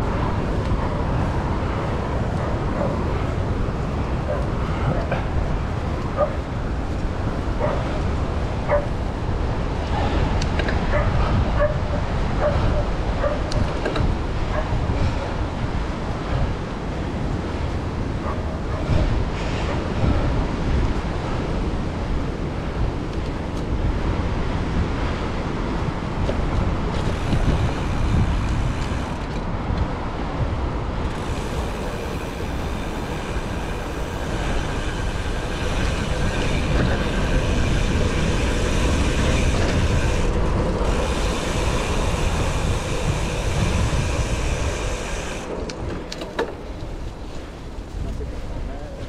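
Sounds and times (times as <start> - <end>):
road and traffic noise: 0.0 - 49.0
wind buffeting microphone: 0.0 - 49.0.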